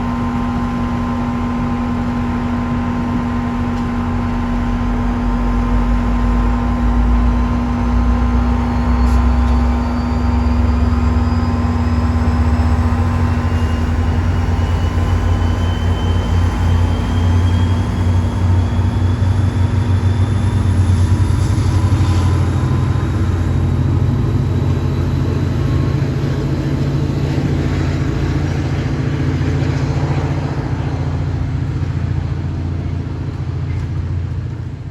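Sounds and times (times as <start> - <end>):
passenger train running by: 0.0 - 34.9.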